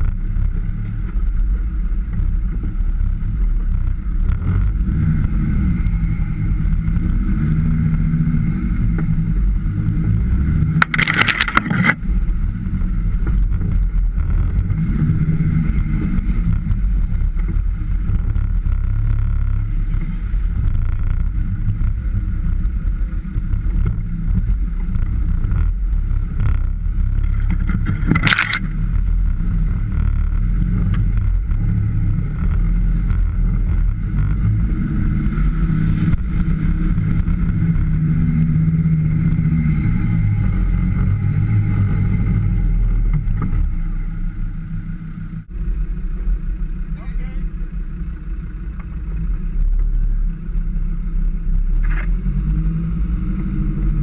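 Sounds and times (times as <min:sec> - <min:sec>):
engine revving at low speed: 0:00.0 - 0:54.0.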